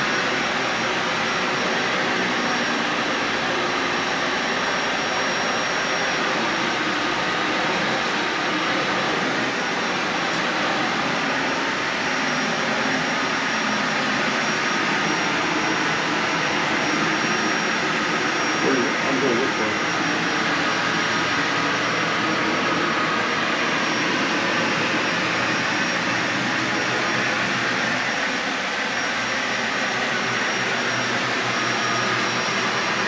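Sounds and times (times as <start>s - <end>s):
vacuum cleaner running over carpet: 0.0s - 33.0s.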